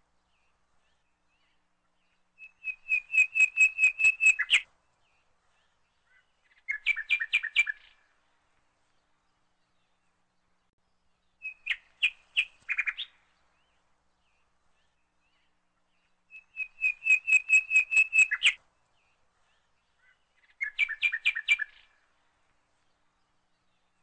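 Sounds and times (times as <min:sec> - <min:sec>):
bird chirping: 0:00.3 - 0:08.1, 0:08.9 - 0:24.0.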